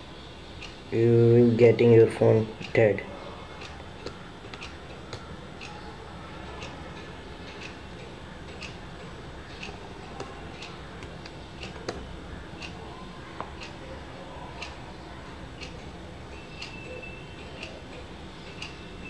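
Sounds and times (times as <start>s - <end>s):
low background hum: 0.0s - 19.0s
clock ticking: 2.6s - 12.8s, 13.4s - 14.0s, 14.6s - 19.0s.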